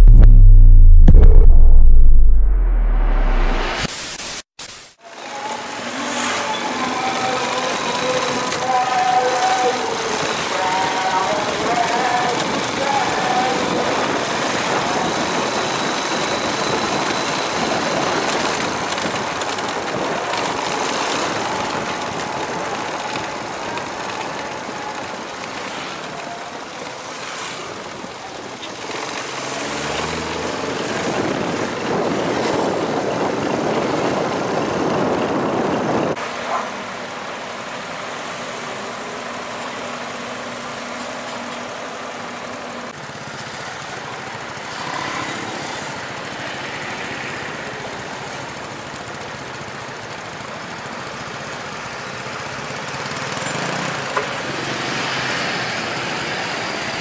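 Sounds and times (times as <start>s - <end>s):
vehicle engines: 0.0s - 3.9s, 5.1s - 57.0s
road noise: 0.0s - 57.0s.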